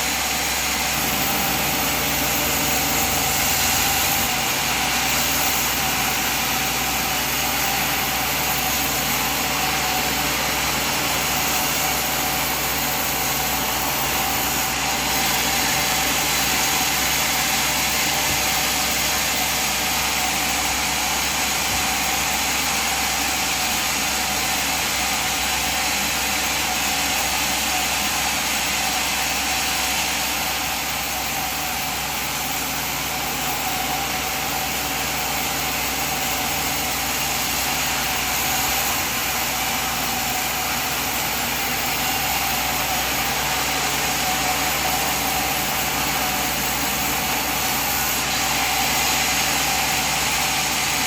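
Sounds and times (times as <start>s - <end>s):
sawmill machine humming: 0.0s - 51.0s.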